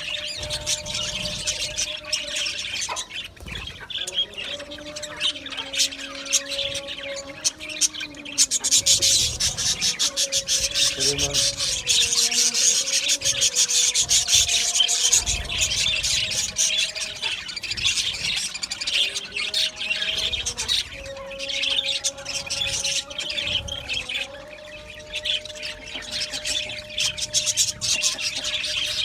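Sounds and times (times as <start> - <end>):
budgerigars chattering: 0.0 - 29.0.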